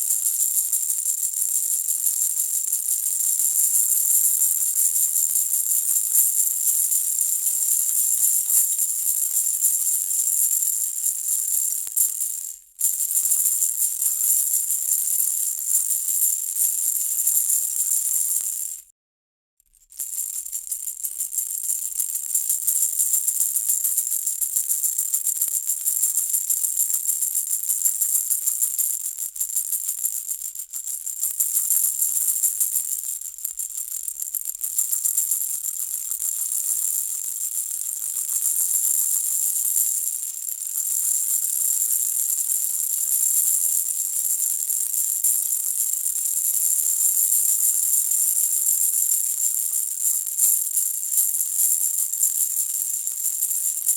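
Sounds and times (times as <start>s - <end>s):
baby rattle toy shaken: 0.0s - 18.9s, 19.6s - 53.9s.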